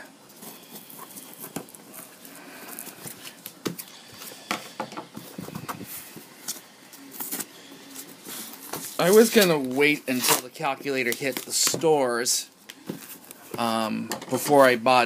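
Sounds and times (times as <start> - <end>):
rustling: 0.0 - 13.6.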